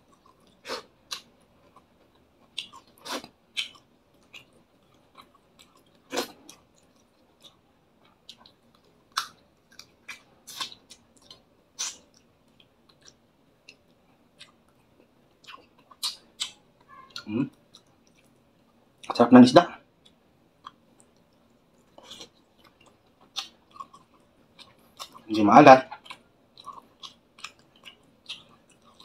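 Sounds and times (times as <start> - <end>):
person chewing: 0.0 - 19.2, 20.0 - 25.3, 25.9 - 29.0.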